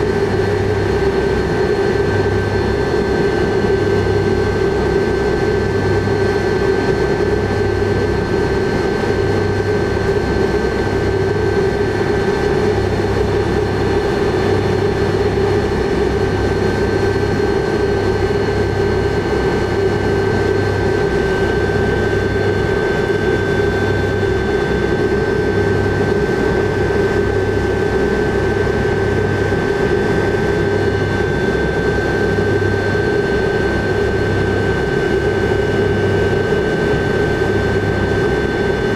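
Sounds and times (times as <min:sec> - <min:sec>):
jet engines whining and humming: 0:00.0 - 0:38.9.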